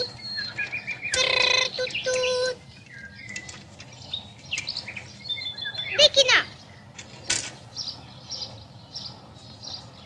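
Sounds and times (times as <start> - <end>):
birds chirping and twittering: 0.0 - 10.0.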